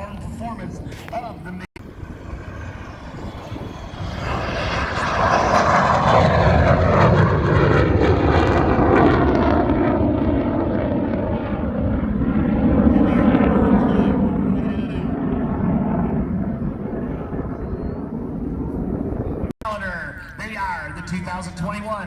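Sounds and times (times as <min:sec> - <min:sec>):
airplane engine fly-by: 0:00.0 - 0:22.0.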